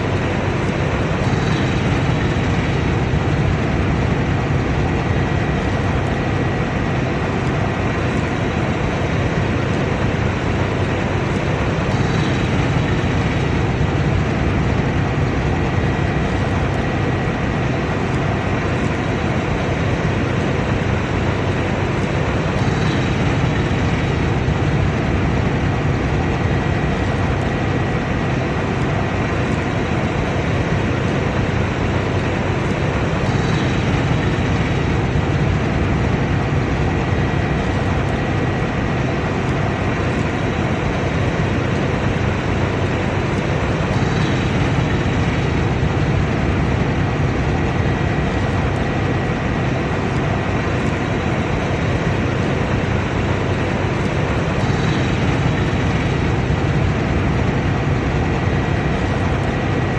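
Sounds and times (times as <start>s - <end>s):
combine harvester running: 0.0s - 59.9s
high steady whine: 0.0s - 59.9s.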